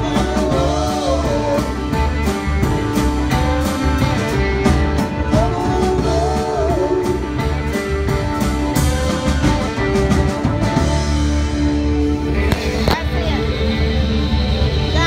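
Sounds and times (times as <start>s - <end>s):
drum kit: 0.0s - 15.0s
electric bass: 0.0s - 15.0s
electric guitars: 0.0s - 15.0s.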